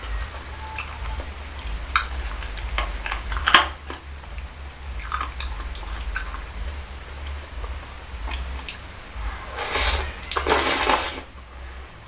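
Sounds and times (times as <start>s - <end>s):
wet chewing: 0.6s - 11.2s.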